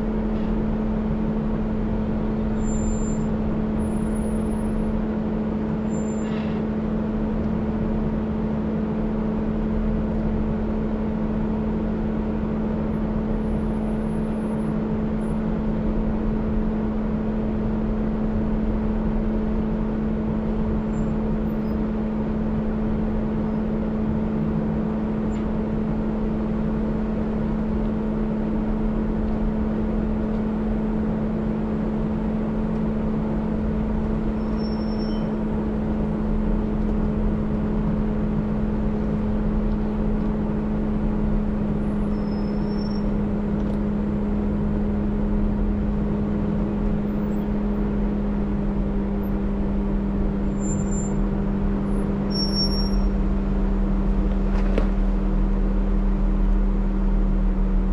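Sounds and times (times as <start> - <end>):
low rumble of driving noise: 0.0 - 57.9
vehicle engine running: 0.0 - 57.9.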